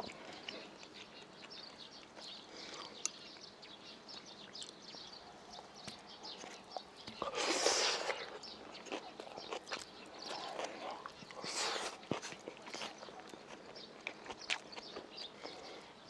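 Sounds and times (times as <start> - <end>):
wet chewing: 0.0 - 3.5, 4.4 - 16.0.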